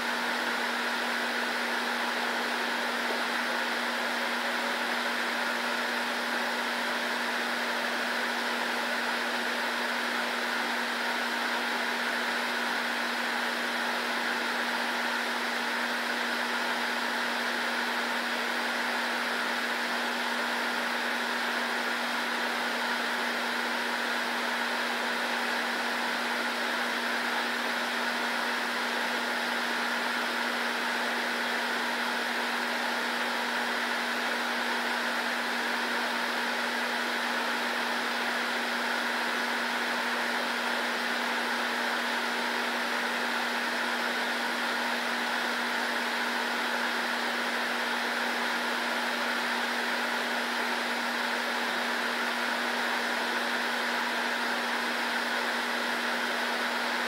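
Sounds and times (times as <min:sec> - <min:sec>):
fan whirring: 0:00.0 - 0:57.0.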